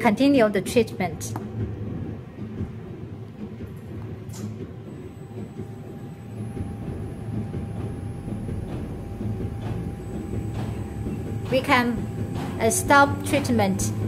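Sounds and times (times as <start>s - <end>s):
air pump humming: 1.5s - 14.0s.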